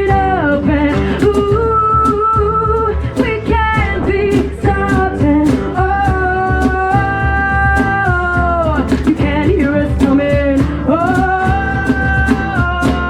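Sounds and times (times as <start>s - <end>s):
cajon beats: 0.0s - 13.0s
guitar: 0.0s - 13.0s.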